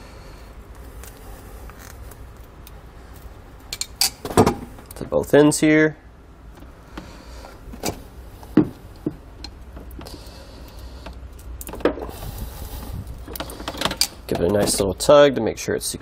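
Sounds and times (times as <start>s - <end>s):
tool and wire handling: 0.7s - 5.0s, 6.5s - 15.1s.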